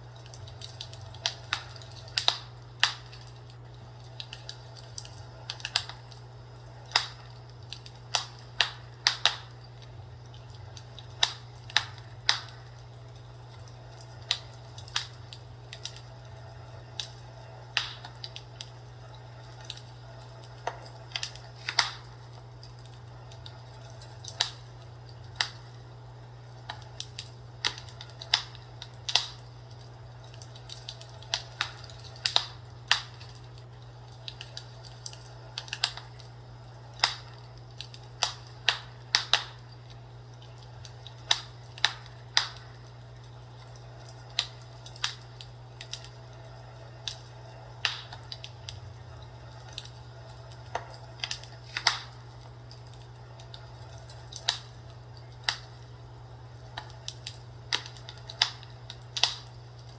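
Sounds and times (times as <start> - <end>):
fire crackling and popping: 0.0 - 59.9
steady low hum: 0.0 - 59.9.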